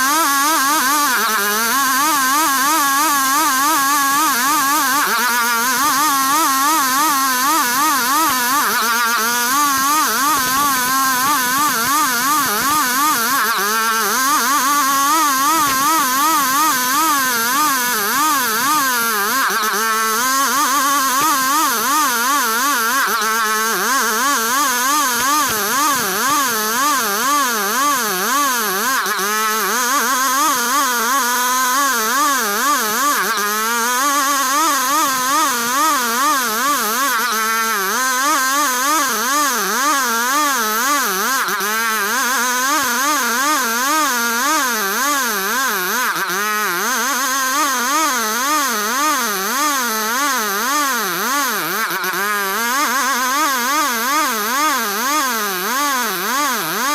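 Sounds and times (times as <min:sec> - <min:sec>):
engine saw cutting wood: 0:00.0 - 0:56.9.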